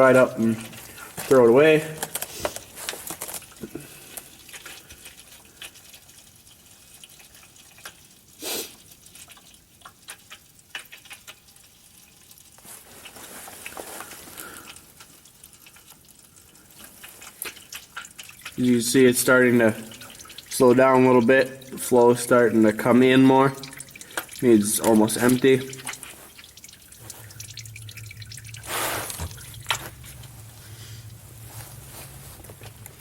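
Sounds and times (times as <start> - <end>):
oil trickling into a pan: 0.0 - 33.0.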